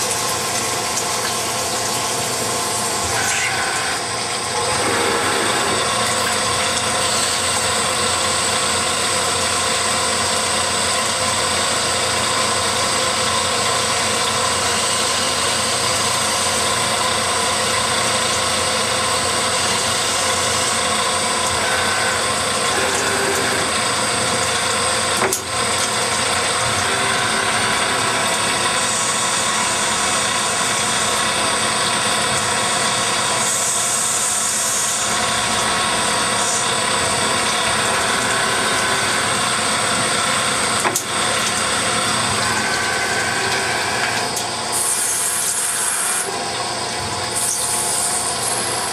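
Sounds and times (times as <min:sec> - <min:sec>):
coolant pouring: 0:00.0 - 0:48.9
lathe machine whirring: 0:00.0 - 0:48.9.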